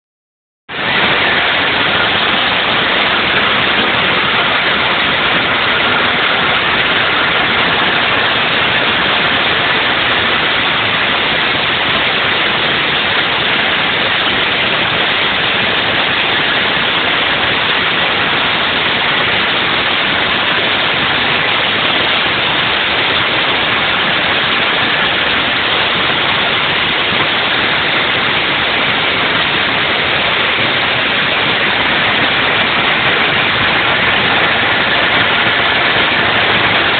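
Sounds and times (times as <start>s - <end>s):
outboard motor running: 0.7s - 36.9s.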